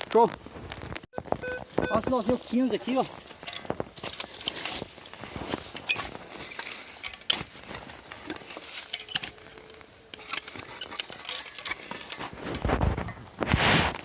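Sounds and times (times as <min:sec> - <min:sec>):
digging tool scraping soil: 0:02.1 - 0:14.0.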